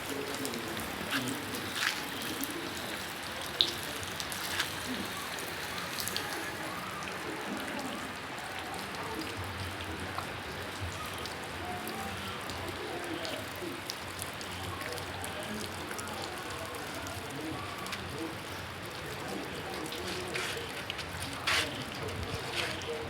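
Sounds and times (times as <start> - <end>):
steady rainfall: 0.0 - 23.0.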